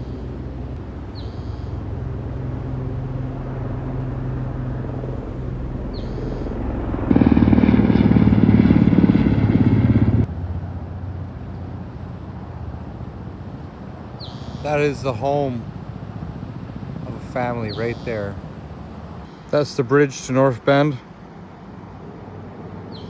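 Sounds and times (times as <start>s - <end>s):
loud engine-like noise: 0.0s - 23.0s
low engine hum: 0.0s - 23.0s.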